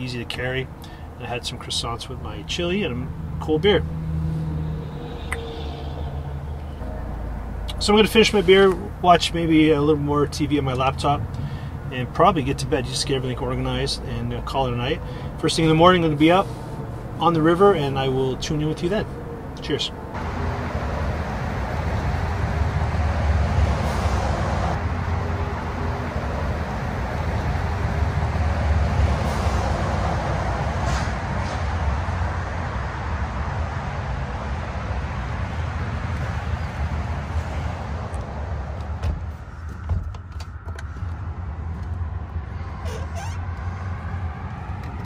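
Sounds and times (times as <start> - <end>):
highway traffic rushing: 0.0 - 45.0.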